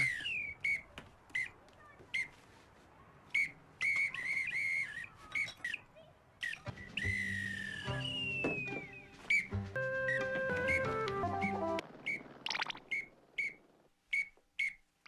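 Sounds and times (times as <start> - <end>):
whistle toots: 0.0 - 2.4, 3.3 - 14.8.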